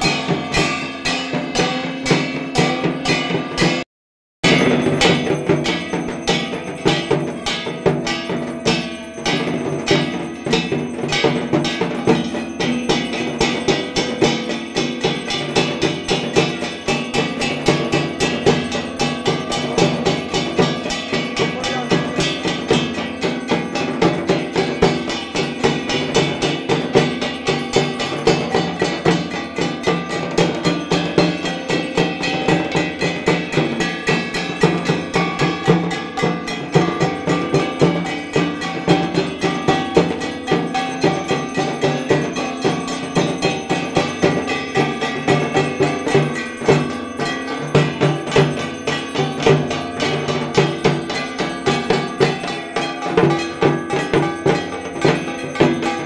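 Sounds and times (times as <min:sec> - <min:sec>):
drums beaten fast: 0:00.0 - 0:03.8, 0:04.4 - 0:56.0
metal gongs clanging: 0:00.0 - 0:03.8, 0:04.4 - 0:56.0.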